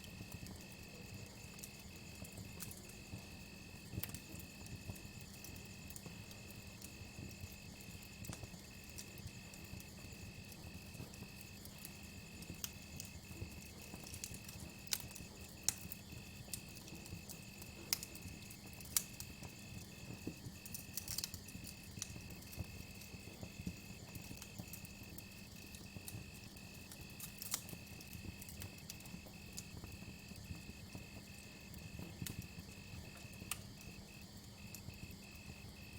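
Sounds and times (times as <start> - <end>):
campfire crackling: 0.0 - 35.9
cricket trill: 0.1 - 35.9.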